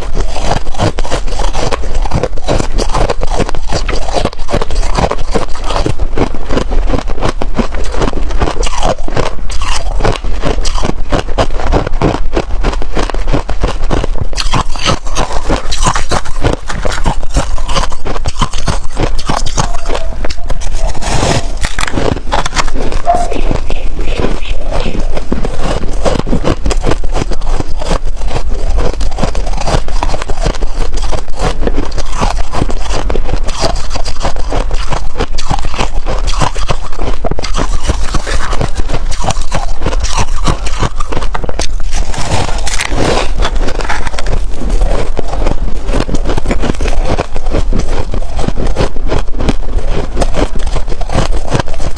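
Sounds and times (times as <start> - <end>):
crunching and chewing frost: 0.0 - 51.9.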